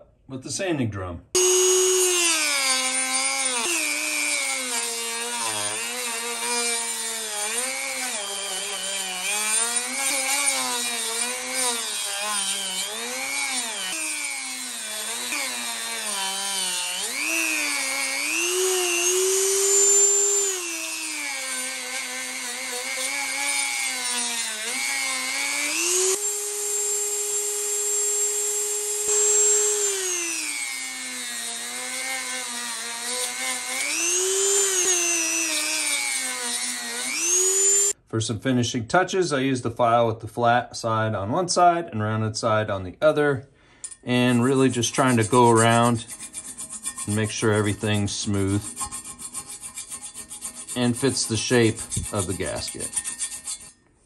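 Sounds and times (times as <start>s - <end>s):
rotary tool grinding metal: 1.4s - 38.0s, 43.8s - 53.9s.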